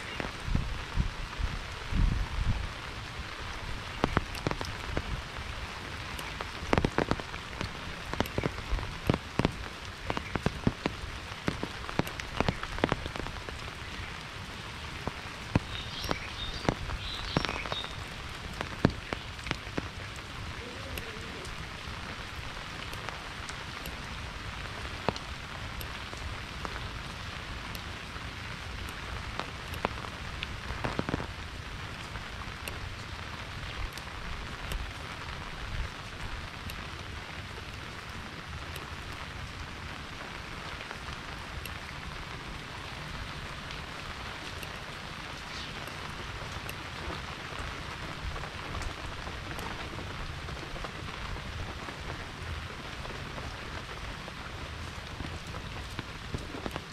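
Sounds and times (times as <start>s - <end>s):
raindrop taps: 0.0s - 1.0s, 2.8s - 56.9s
steady rain hissing: 0.0s - 56.9s.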